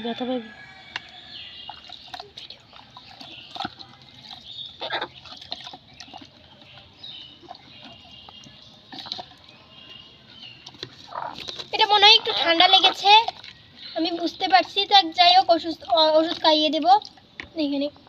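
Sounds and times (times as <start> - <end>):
water sloshing in a plastic bucket: 0.1 - 18.0
small water splashes: 0.9 - 17.6.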